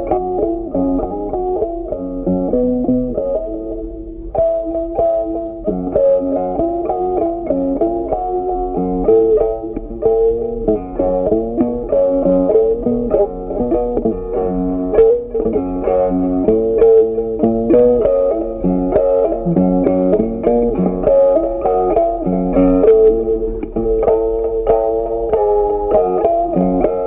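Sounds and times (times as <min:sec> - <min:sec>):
plucked guitar melody: 0:00.0 - 0:27.0.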